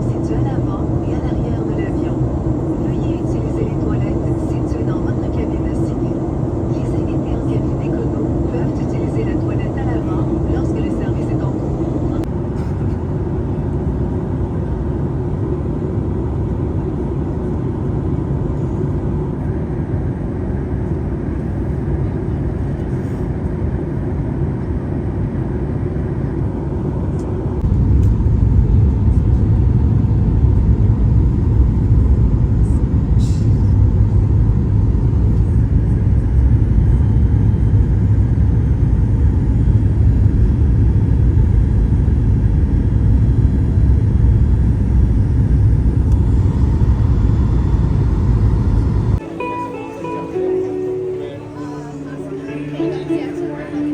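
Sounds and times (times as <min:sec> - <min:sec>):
aircraft engine drone in cabin: 0:00.0 - 0:53.9.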